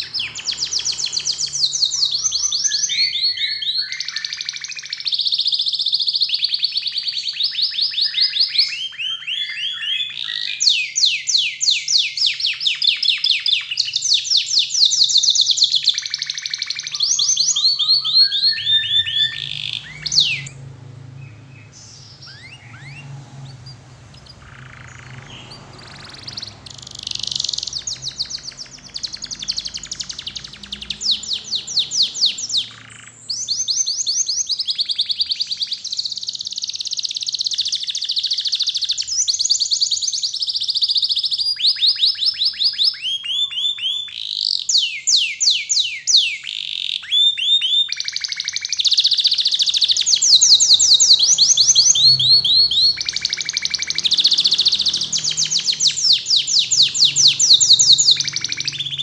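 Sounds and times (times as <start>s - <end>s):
canary singing: 0.0s - 59.0s
faint bird chirps: 0.0s - 59.0s.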